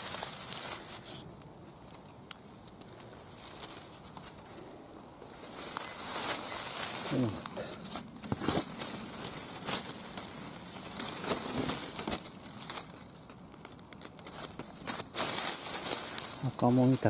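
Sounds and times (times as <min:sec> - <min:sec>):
dry grass and leaves rustling: 0:00.0 - 0:17.0.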